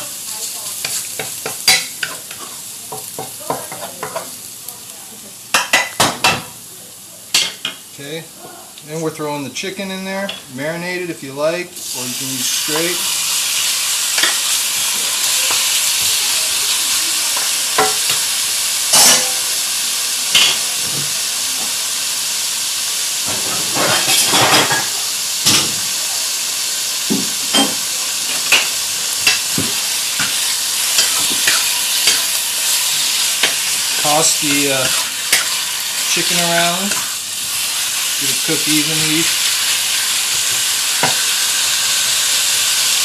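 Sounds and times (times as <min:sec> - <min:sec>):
chicken frying in hot oil: 0:00.0 - 0:10.0, 0:10.6 - 0:43.0.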